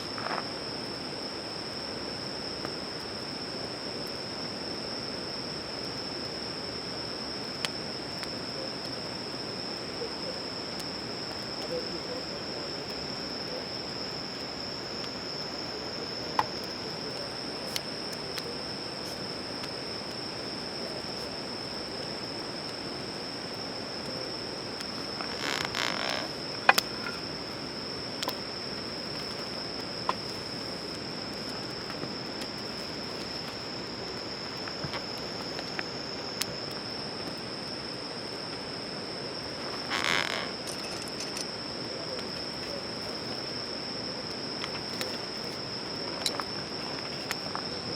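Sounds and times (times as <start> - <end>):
insects chorus: 0.0 - 47.9.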